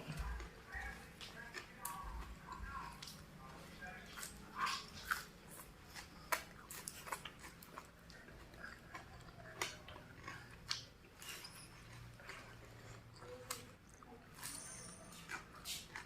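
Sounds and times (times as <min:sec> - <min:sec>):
person chewing crunchy vegetables: 0:00.0 - 0:16.0.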